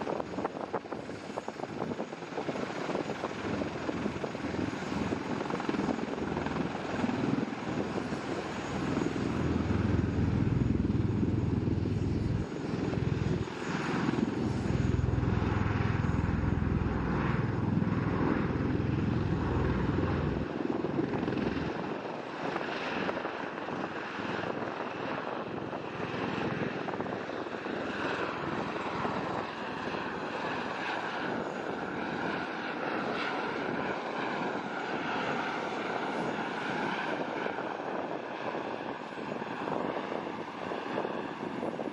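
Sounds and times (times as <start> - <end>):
aircraft engines and rotors rumbling: 0.0 - 41.9.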